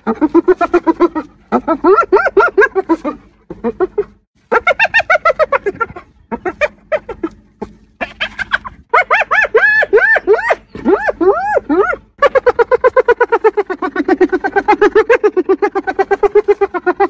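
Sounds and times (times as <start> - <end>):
hyena giggling: 0.0 - 17.0.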